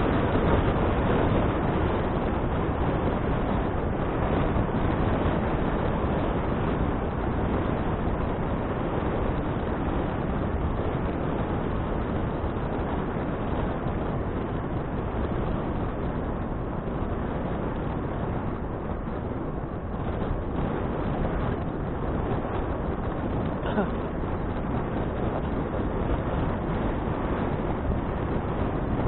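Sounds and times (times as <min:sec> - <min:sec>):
low rumble: 0:00.0 - 0:29.0
wind rushing on microphone: 0:00.0 - 0:29.0.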